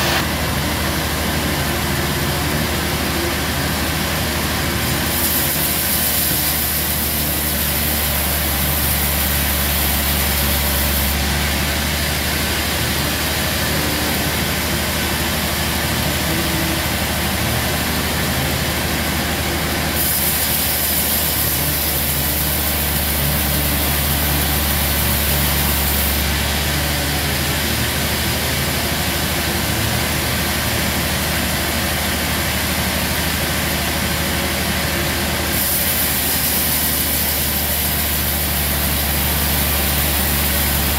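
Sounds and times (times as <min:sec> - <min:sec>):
bandsaw machine drone: 0:00.0 - 0:40.9
saw blade cutting log hiss: 0:02.5 - 0:32.0, 0:34.7 - 0:40.9.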